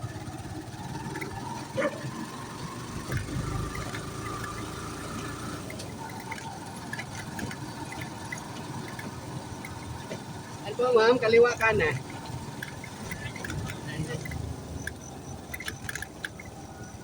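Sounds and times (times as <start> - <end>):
road and engine noise in vehicle: 0.0 - 17.0.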